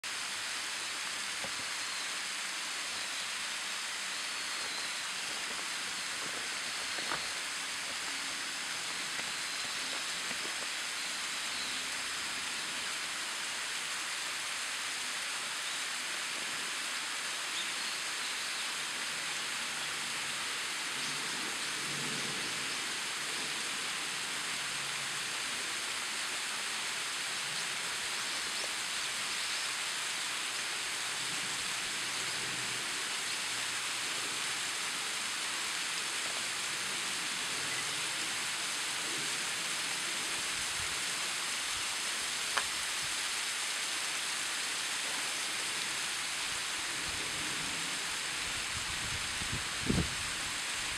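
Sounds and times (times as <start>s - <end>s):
thin waterfall hissing: 0.0s - 50.9s.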